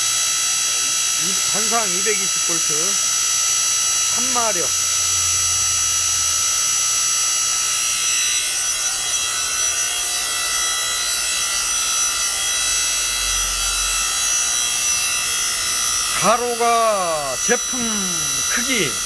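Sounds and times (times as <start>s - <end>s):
electric motor and hydraulic pump whine: 0.0s - 19.0s.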